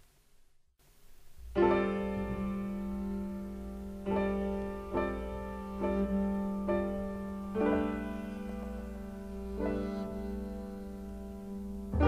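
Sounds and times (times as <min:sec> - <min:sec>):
soft jazz piano chords: 0:00.9 - 0:12.0.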